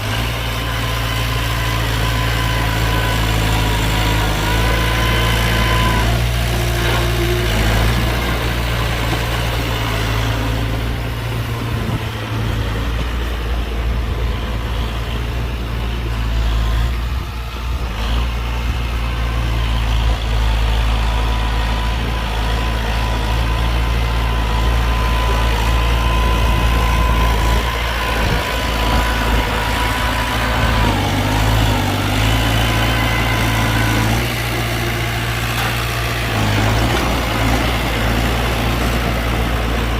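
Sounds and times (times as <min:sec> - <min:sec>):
construction machine engine rumbling: 0:00.0 - 0:39.9.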